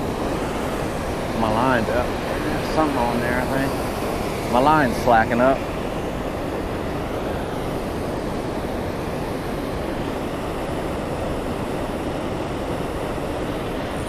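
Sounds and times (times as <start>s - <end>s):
river water rushing over dam: 0.0s - 14.0s.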